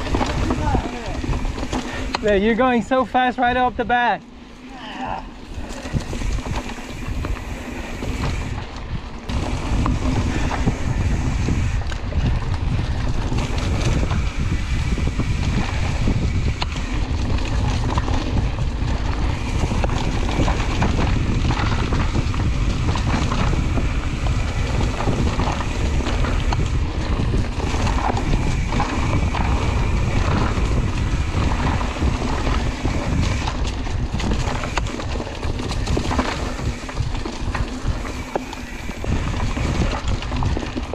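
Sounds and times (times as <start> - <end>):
tyre and trail clatter: 0.0 - 40.9
wind buffeting microphone: 0.0 - 40.9.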